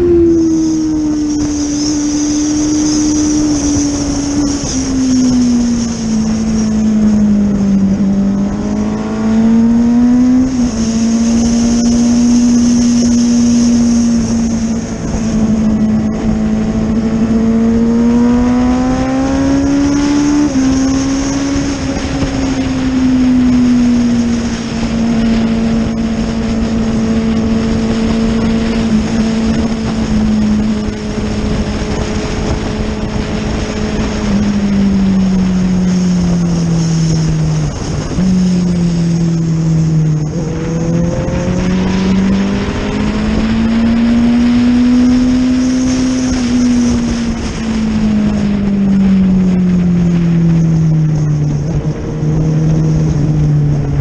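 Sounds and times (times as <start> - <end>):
racing motorcycle engine: 0.0 - 54.0
wind rushing: 0.0 - 54.0.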